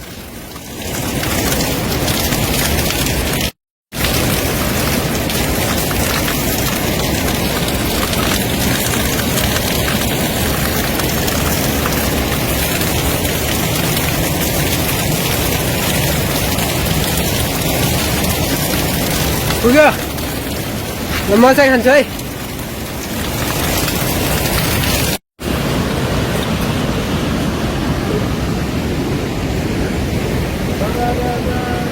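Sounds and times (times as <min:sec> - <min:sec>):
heavy rain: 0:00.0 - 0:31.9.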